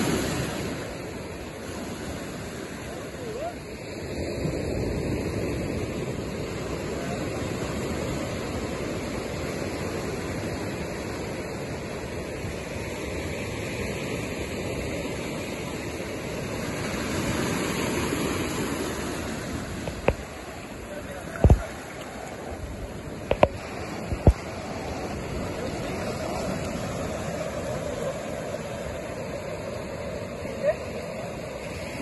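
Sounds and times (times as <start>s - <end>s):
surf washing over cobble beach: 0.0s - 32.0s.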